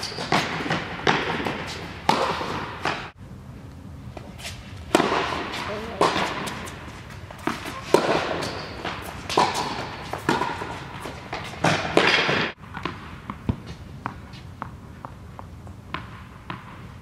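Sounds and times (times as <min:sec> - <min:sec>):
ball bouncing on hard court: 0:00.0 - 0:03.2, 0:04.9 - 0:17.0
tennis balls struck by rackets: 0:00.0 - 0:03.2, 0:04.2 - 0:17.0.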